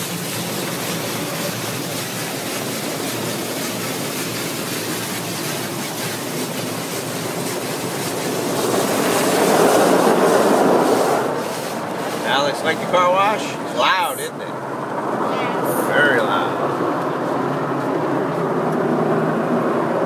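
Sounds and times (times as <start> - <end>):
car wash spraying water: 0.0 - 20.0.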